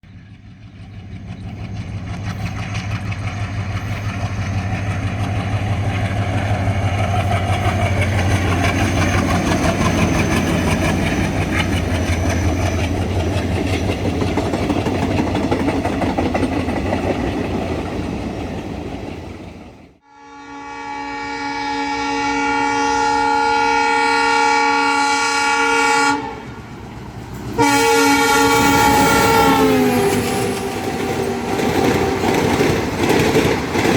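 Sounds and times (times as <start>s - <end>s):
locomotive engine drone: 0.0s - 20.0s, 22.9s - 33.9s
train rolling past: 0.0s - 20.0s, 20.6s - 33.9s.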